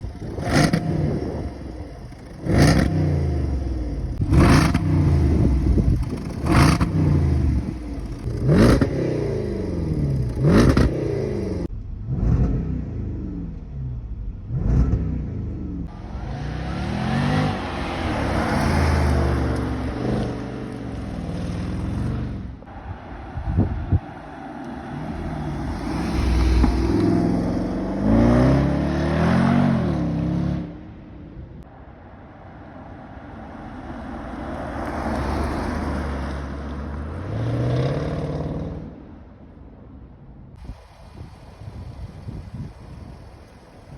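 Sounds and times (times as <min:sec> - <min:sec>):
car engine revving: 0:00.0 - 0:30.8, 0:31.6 - 0:38.9, 0:40.6 - 0:43.9.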